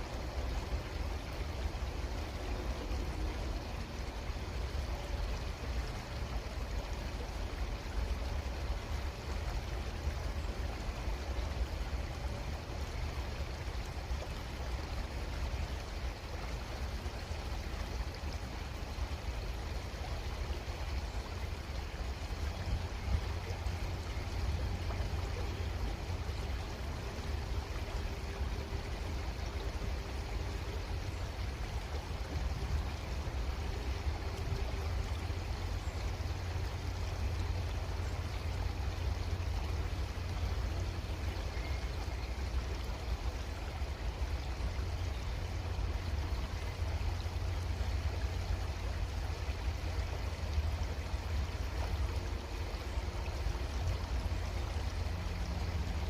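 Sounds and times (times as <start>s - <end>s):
constant low rumble: 0.0s - 56.0s
creek water flowing: 0.0s - 56.0s.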